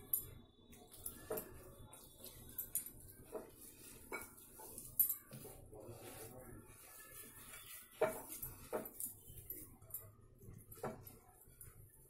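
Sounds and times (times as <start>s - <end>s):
hand rubbing dough in bowl: 1.2s - 12.0s.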